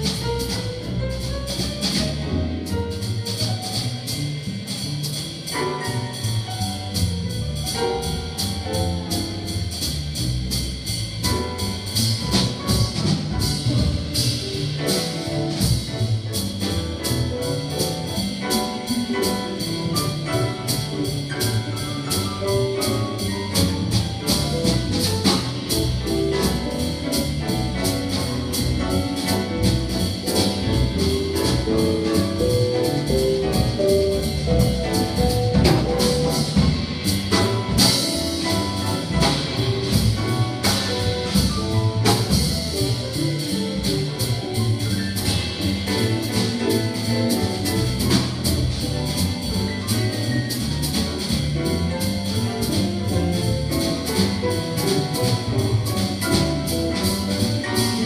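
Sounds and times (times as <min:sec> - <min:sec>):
jazz big band playing: 0:00.0 - 0:58.0.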